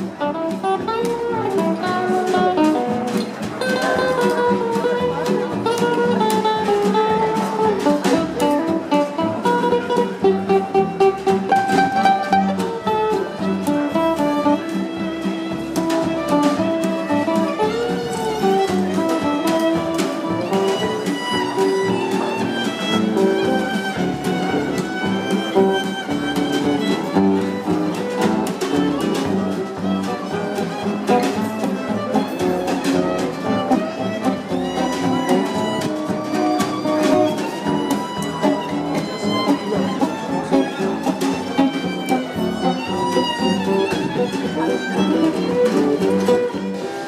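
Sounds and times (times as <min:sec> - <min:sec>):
bowed fiddle notes: 0:00.0 - 0:47.0
strummed guitar: 0:00.0 - 0:47.0.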